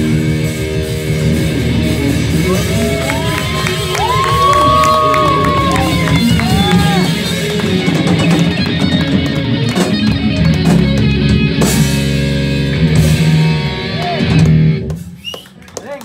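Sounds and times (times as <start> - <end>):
live rock band playing: 0.0 - 15.3.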